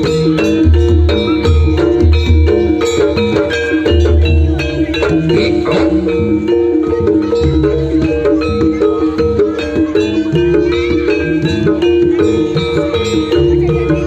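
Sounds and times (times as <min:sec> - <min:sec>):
drums: 0:00.0 - 0:14.0
gamelan metallophones: 0:00.0 - 0:14.0.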